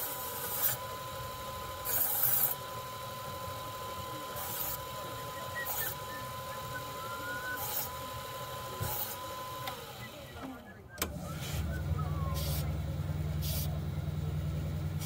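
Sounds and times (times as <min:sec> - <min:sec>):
belt grinder motor humming: 0:00.0 - 0:10.3, 0:11.5 - 0:15.0.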